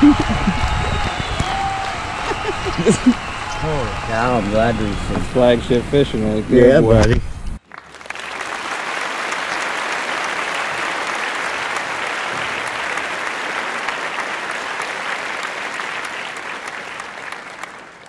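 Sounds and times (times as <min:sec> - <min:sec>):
crowd applause: 0:00.0 - 0:06.5, 0:07.6 - 0:18.0.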